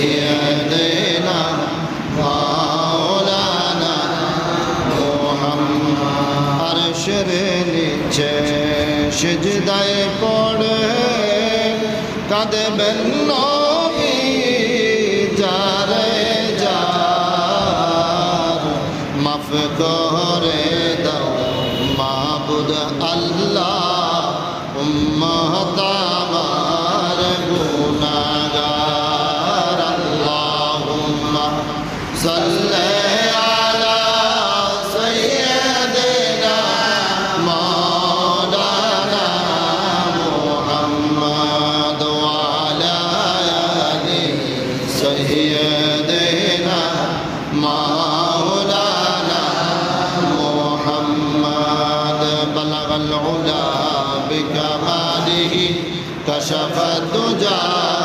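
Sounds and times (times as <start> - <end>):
man chanting: 0.0 - 58.0.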